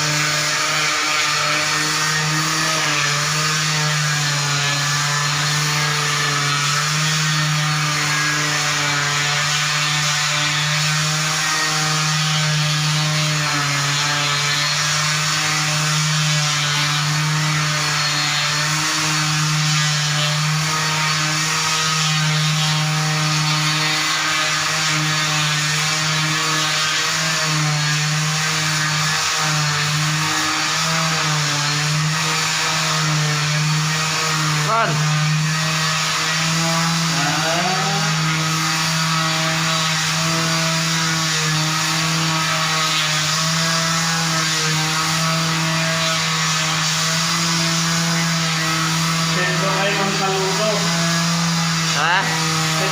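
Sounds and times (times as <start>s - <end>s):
floor sander motor hum: 0.0s - 52.9s
sandpaper hissing on wood: 0.0s - 52.9s.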